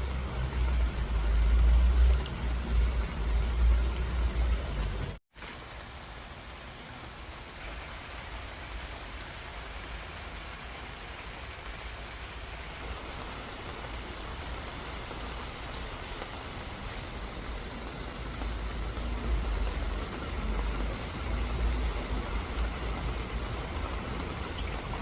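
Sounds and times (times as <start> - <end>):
patter of raindrops: 0.0 - 25.0
steady rain falling: 0.0 - 25.0.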